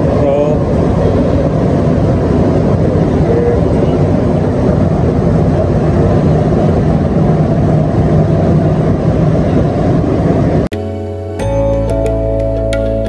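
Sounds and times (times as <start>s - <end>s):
constant hum: 0.0s - 13.0s
metro train rumbling: 0.0s - 13.0s.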